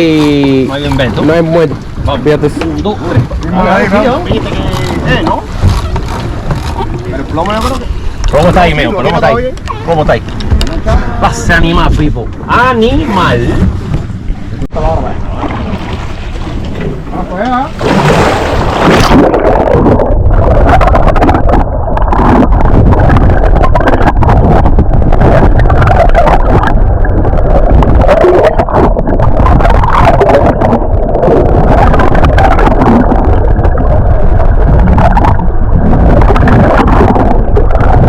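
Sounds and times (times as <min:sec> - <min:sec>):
powerboat engine rumbling: 0:00.0 - 0:38.0
water noise: 0:00.0 - 0:38.0
wind buffeting microphone: 0:00.0 - 0:38.0.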